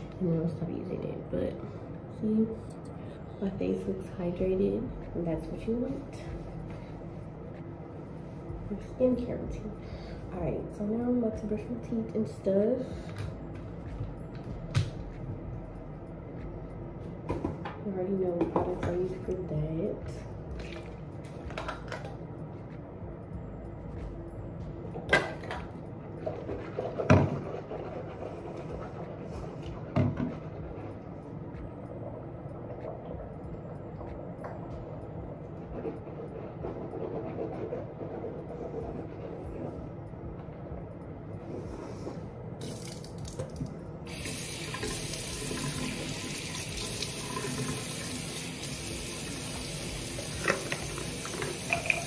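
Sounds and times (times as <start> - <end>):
steady low background noise: 0.0 - 52.0.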